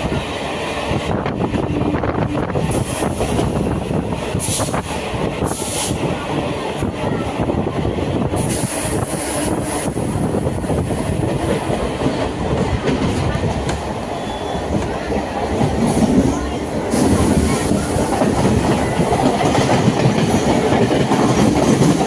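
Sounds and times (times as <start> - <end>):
electric train rumbling on track: 0.0 - 22.0.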